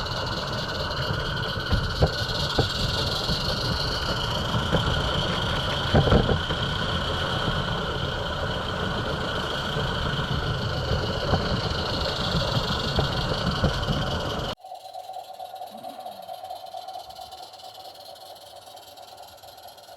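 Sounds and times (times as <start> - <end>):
steam locomotive rumbling and hissing: 0.0 - 19.9.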